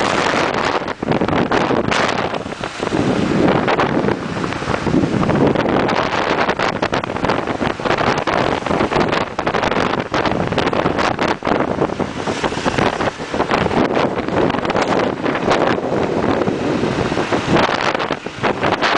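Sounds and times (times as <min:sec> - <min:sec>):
road noise: 0:00.0 - 0:18.9
wind buffeting microphone: 0:00.0 - 0:18.9.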